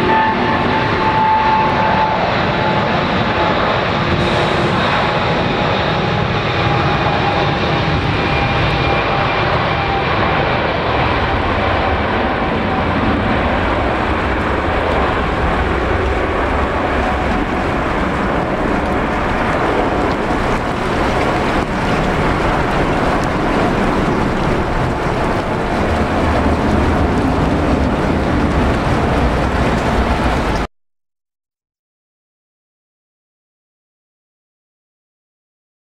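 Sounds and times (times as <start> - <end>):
high engine whine: 0.0 - 30.6
jet engines roaring: 0.0 - 30.7.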